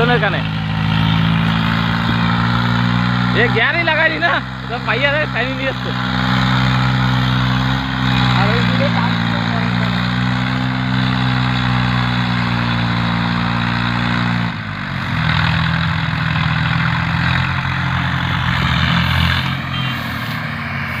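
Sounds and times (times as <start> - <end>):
diesel tractor engines running: 0.0 - 21.0.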